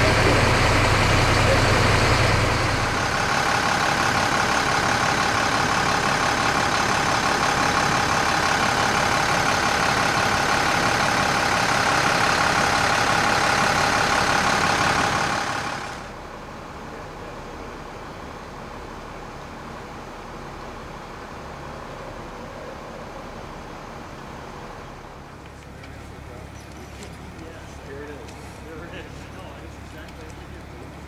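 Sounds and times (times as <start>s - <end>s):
truck engine drone: 0.0s - 31.0s.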